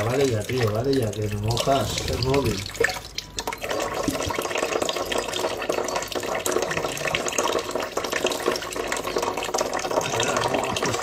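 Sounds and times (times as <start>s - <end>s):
tap water running into hands: 0.0s - 11.0s.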